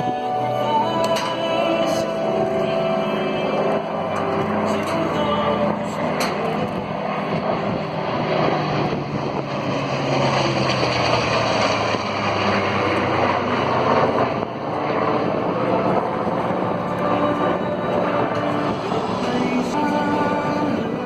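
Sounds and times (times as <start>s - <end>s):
aircraft engines droning: 0.0s - 21.0s.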